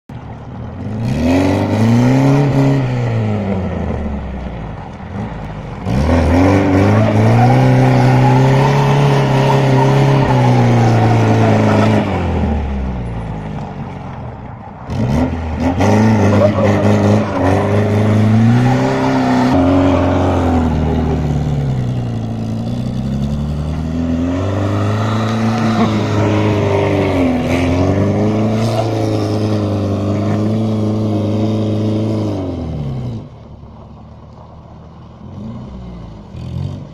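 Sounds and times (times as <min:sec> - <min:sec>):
car engine revving: 0:00.2 - 0:36.9.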